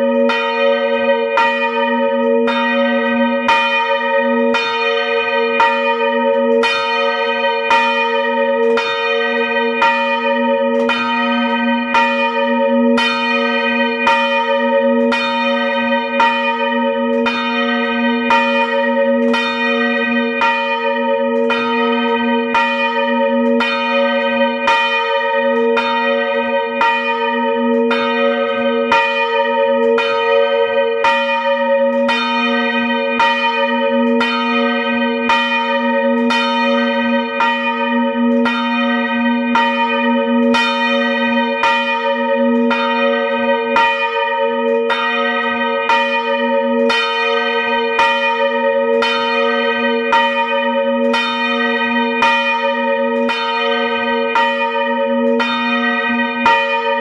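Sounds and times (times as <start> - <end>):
church bells ringing: 0.0 - 57.0.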